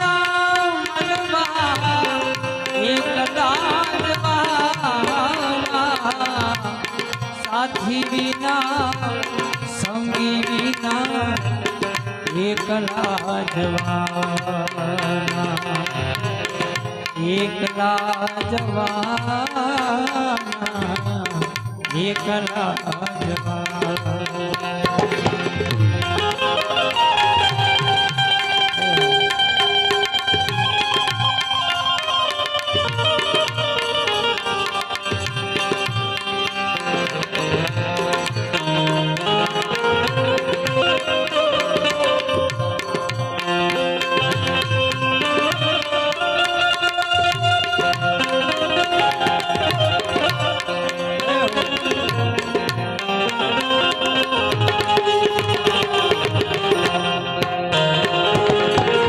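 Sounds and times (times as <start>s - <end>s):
hand drum rhythm: 0.0s - 59.0s.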